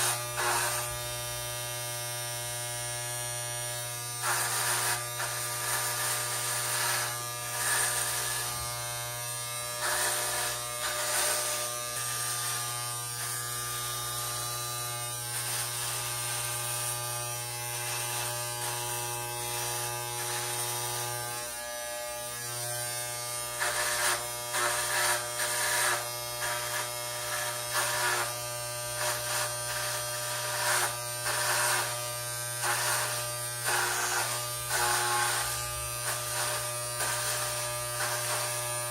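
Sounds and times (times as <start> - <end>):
clipper blades cutting hair: 0.0 - 38.9
electric hair clippers buzzing: 0.0 - 38.9.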